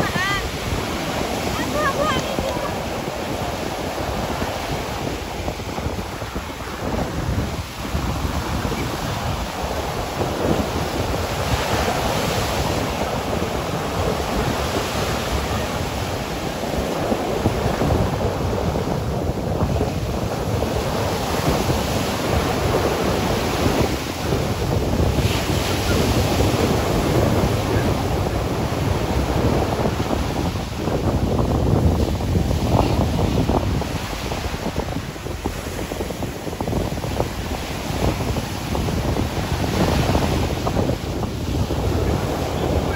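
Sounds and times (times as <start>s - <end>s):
surf breaking on a beach: 0.0s - 42.9s
wind buffeting microphone: 0.0s - 42.9s.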